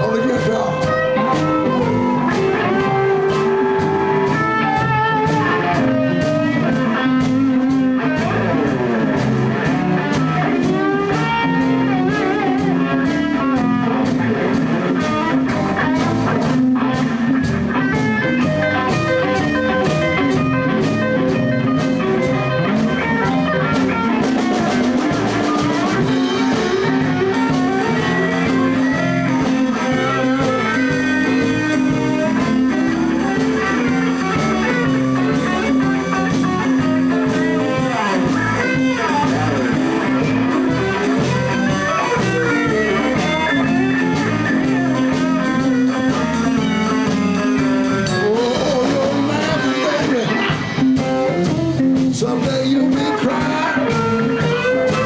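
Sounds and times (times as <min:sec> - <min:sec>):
blues guitar: 0:00.0 - 0:55.0
drum kit beat: 0:00.0 - 0:55.0.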